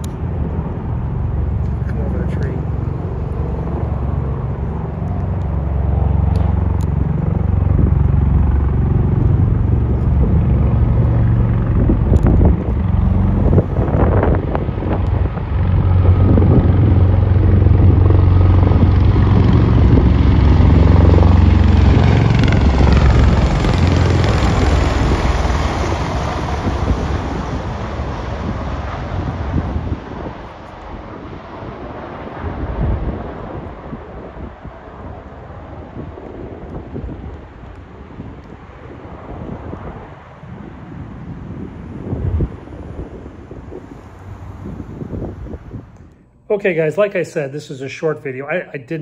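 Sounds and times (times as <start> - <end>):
tiltrotor aircraft flying overhead: 0.0 - 46.4.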